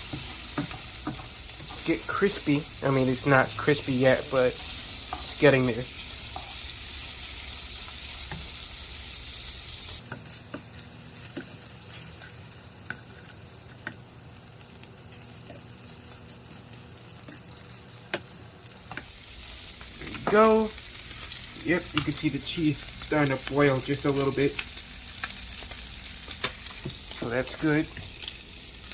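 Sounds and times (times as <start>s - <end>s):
bacon sizzling in a pan: 0.0s - 28.9s.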